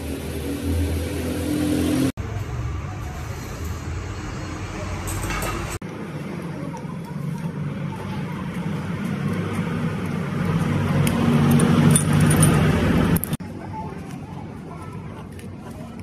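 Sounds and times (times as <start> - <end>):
road traffic noise: 0.0 - 16.0
vehicle engine hum: 0.0 - 16.0.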